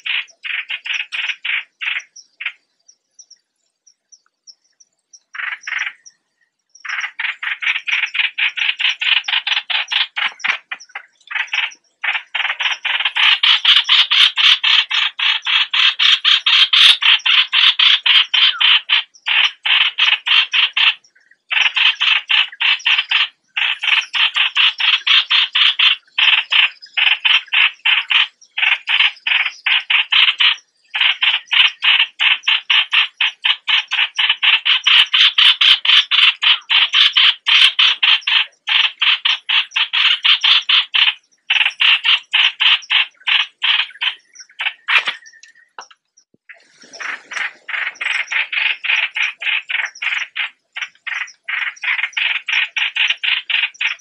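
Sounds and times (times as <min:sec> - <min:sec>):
bird harsh rapid chatter: 0:00.0 - 0:02.7, 0:05.3 - 0:06.2, 0:06.8 - 0:54.0.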